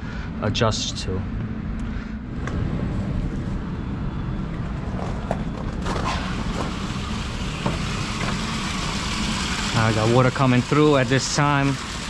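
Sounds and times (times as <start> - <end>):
steady low rumble: 0.0 - 11.1.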